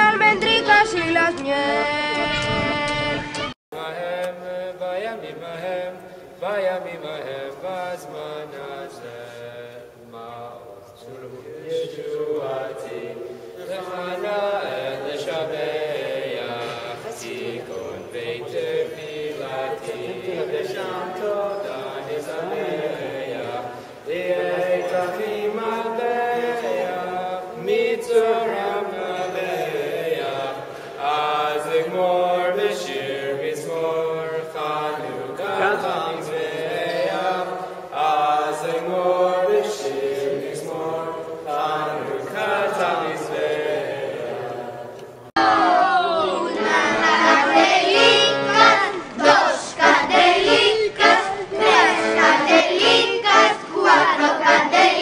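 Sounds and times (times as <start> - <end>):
group singing in unison: 2.1 - 55.0.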